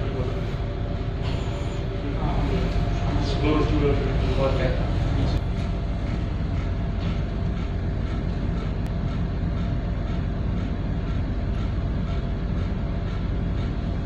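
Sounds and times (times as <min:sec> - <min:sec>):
ship engine rumble and hum: 0:00.0 - 0:14.0.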